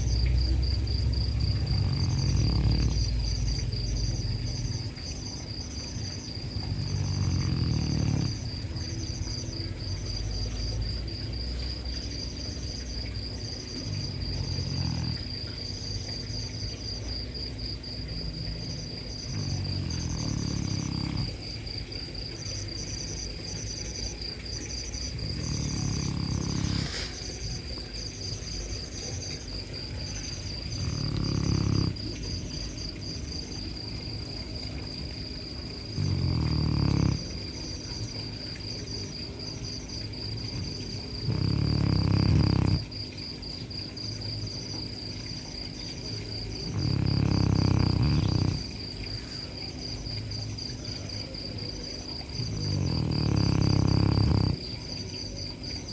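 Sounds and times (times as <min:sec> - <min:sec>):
dog snoring: 0:00.0 - 0:43.8, 0:44.5 - 0:54.8.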